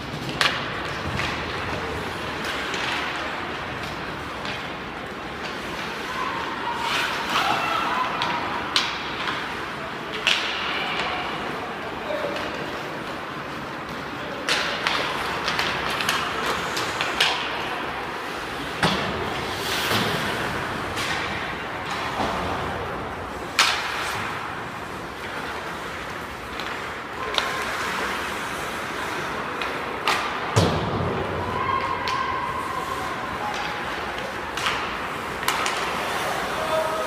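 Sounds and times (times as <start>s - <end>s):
hockey sticks clacking: 0.0s - 37.0s
skates scraping ice: 0.0s - 37.0s.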